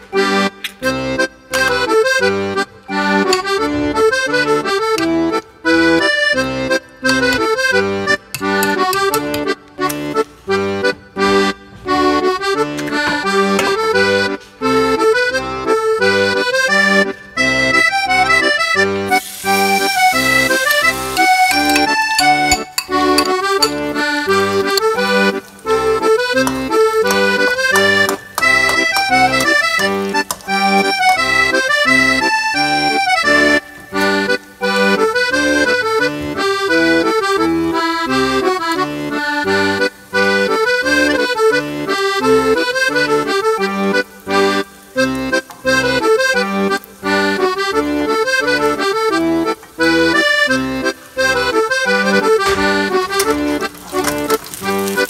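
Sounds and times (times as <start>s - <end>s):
instrumental music with beat: 0.0s - 55.0s.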